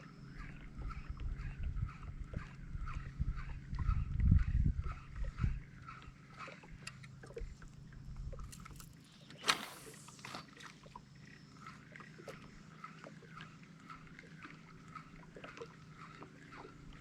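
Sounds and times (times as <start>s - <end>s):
water lapping against canoe: 0.0s - 17.0s.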